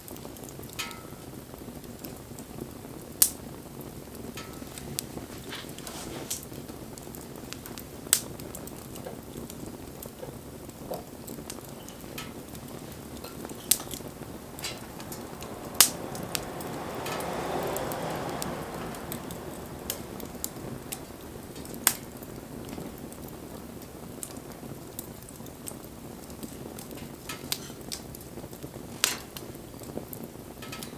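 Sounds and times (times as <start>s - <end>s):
campfire hissing: 0.0s - 30.9s
fire popping and crackling: 0.0s - 30.9s
rushing flame: 0.0s - 30.9s.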